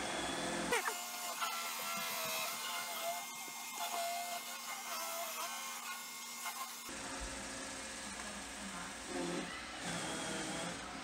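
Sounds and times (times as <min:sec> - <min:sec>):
robot vacuum motors whirring: 0:00.0 - 0:11.0.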